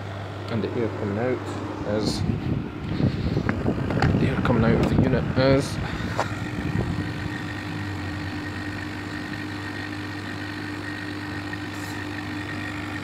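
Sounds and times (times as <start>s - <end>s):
fan blowing air: 0.0s - 13.0s
heat pump humming: 0.0s - 13.0s.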